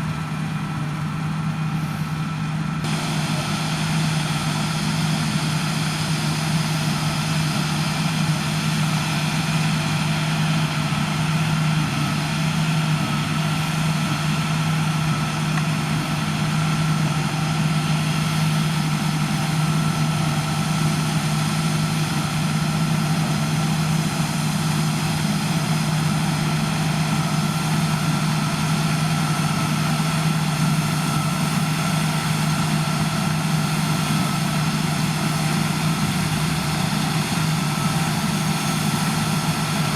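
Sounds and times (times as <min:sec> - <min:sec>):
diesel engine drone: 0:00.0 - 0:39.9
high whine: 0:00.0 - 0:39.9.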